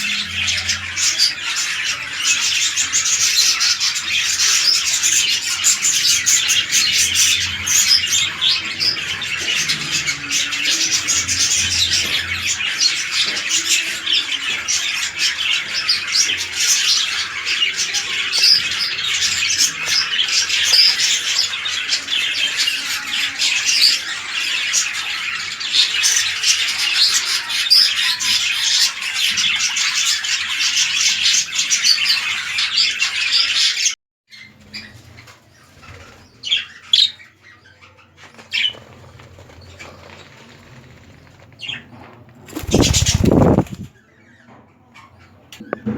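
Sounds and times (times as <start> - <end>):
budgerigars chattering and squawking: 0.0 - 40.8, 41.6 - 45.9.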